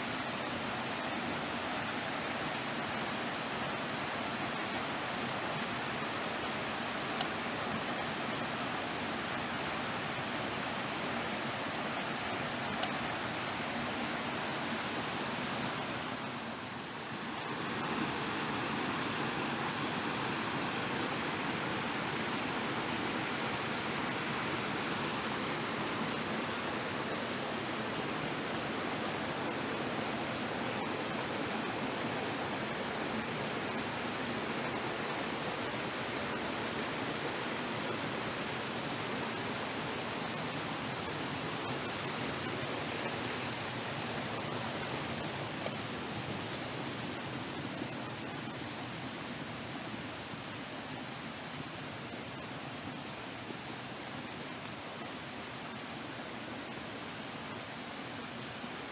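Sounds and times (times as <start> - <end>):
running water cascading: 0.0 - 58.9.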